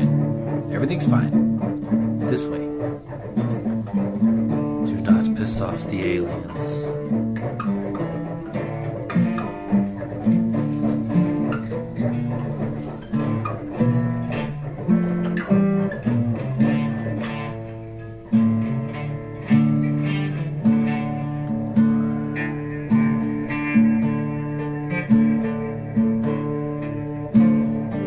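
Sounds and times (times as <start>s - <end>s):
guitar plucked notes and chords: 0.0s - 28.0s.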